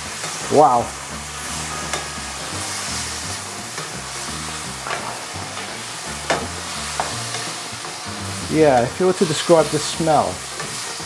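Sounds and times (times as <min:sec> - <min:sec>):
food sizzling in a frying pan: 0:00.0 - 0:11.0
spatula stirring and tossing food: 0:00.0 - 0:11.0.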